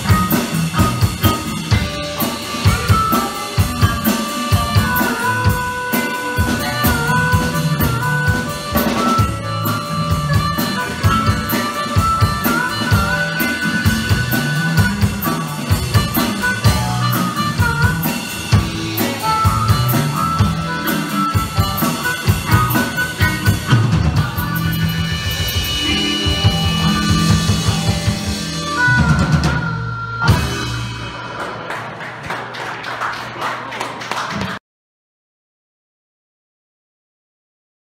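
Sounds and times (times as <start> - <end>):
harmonica wailing: 0.0 - 31.2
electric guitar riff: 0.0 - 31.7
drum kit: 0.0 - 32.3.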